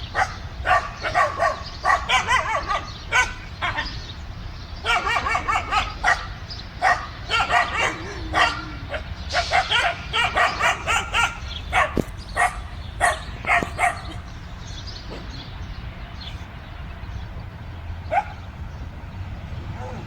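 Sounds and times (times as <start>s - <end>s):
dogs barking: 0.0s - 20.0s.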